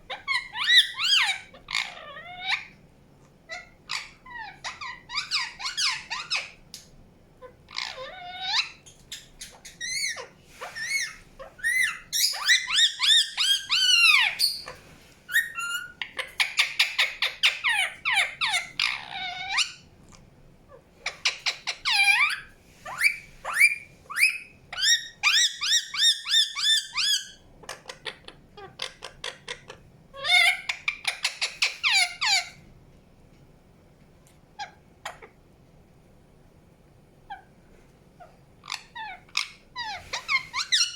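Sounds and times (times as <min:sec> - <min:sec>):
parakeet chirping and chattering: 0:00.1 - 0:02.8, 0:03.5 - 0:06.6, 0:07.4 - 0:19.9, 0:20.7 - 0:32.6, 0:38.2 - 0:40.9.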